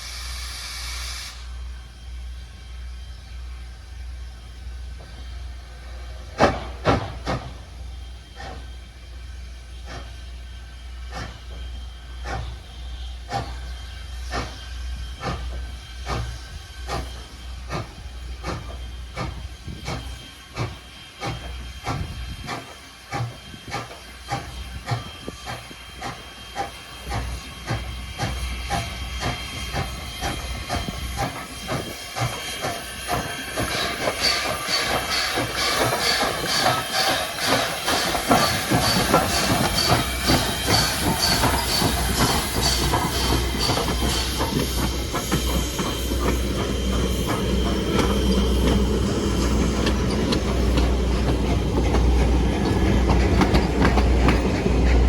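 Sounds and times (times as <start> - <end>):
hissing steam: 0.0 - 55.0
steam locomotive exhaust chuffs: 0.0 - 55.0.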